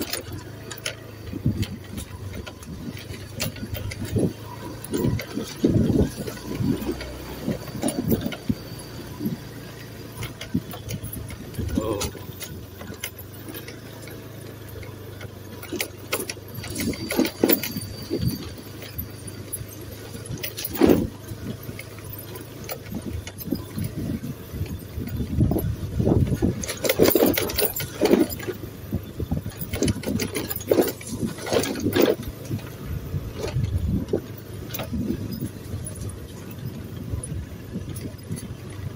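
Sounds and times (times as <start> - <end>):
car engine hum: 0.0 - 38.9
car knocks and rattles: 0.0 - 38.9.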